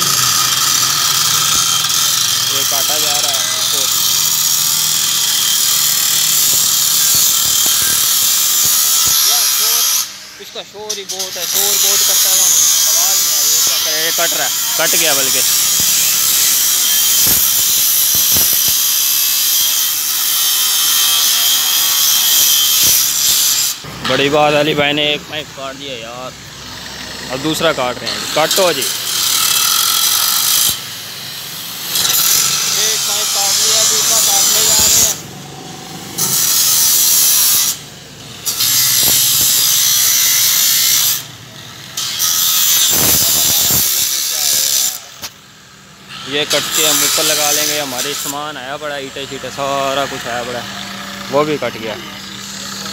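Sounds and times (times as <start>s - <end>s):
angle grinder cutting metal: 0.0s - 52.9s.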